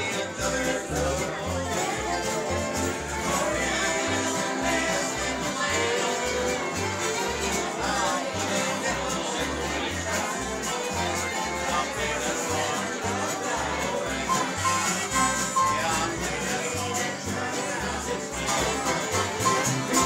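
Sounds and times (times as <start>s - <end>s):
fiddle: 0.0s - 20.0s
strummed acoustic guitars: 0.0s - 20.0s
upright bass: 0.0s - 20.0s.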